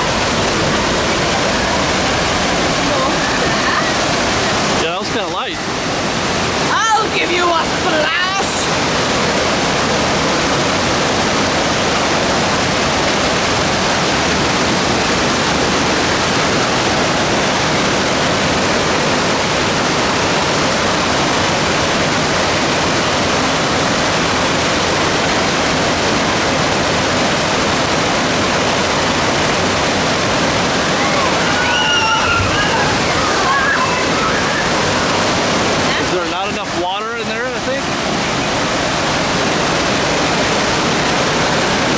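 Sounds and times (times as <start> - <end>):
water rushing over falls: 0.0 - 41.9.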